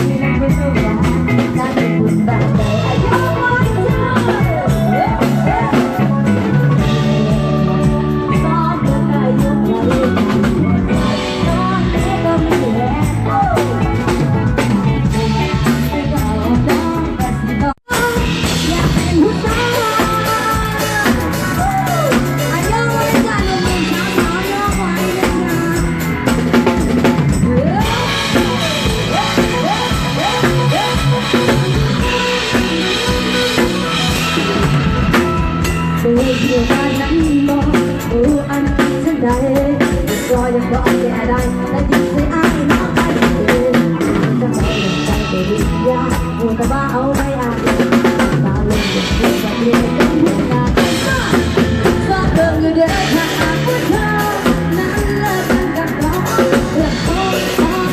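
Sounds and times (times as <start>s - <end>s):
drum kit beat: 0.0s - 57.9s
live band music: 0.0s - 57.9s.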